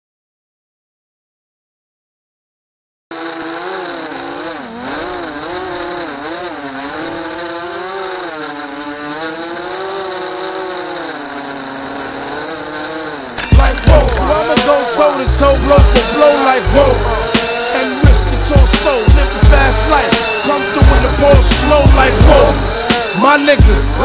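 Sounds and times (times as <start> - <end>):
quadcopter motors buzzing: 3.1 - 24.0.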